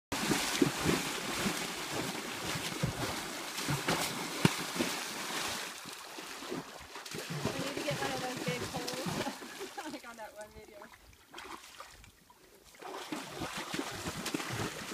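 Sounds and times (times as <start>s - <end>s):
horses splashing through water: 0.1s - 14.9s.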